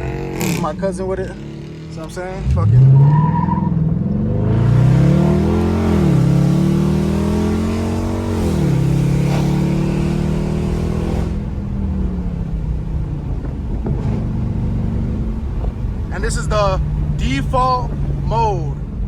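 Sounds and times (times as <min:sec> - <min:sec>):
car engine and exhaust accelerating: 0:00.0 - 0:19.0.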